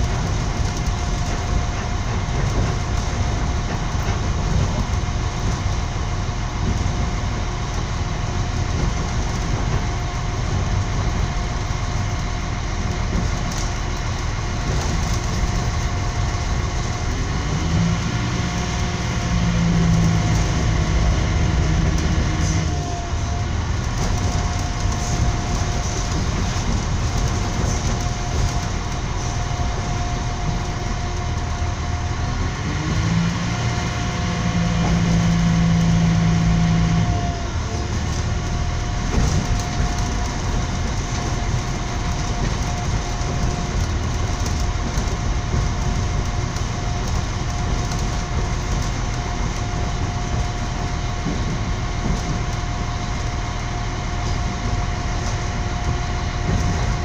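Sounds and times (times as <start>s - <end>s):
train rumble with whine: 0.0s - 57.0s.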